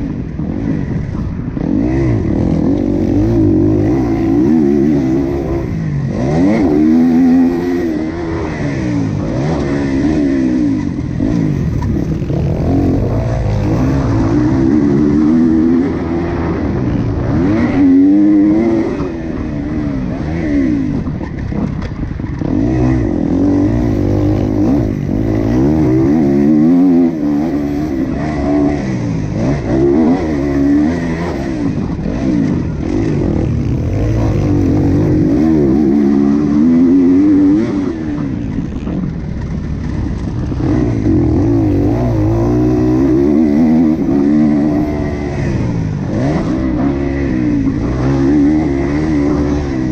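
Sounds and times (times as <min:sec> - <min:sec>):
motocross bike engine revving: 0:00.0 - 0:49.9.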